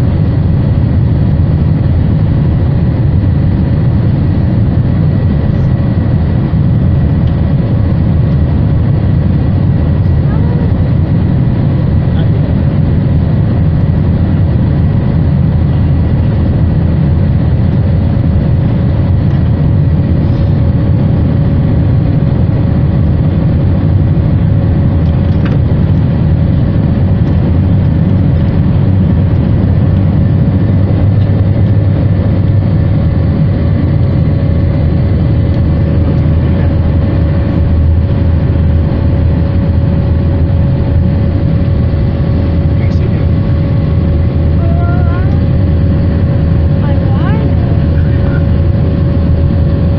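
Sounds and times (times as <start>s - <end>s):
jet engine roar in cabin: 0.0s - 49.9s.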